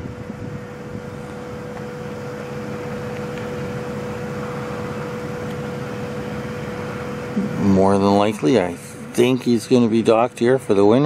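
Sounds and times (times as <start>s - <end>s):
low drone: 0.0s - 11.0s
mid-pitched mechanical tone: 0.0s - 11.0s.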